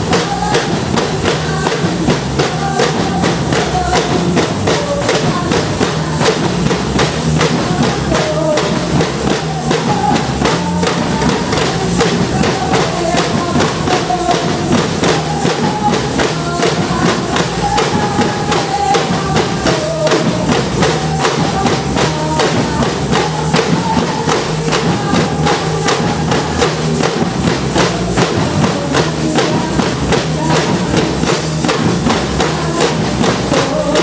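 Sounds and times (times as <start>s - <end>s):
drums beating fast rhythm: 0.0s - 34.0s.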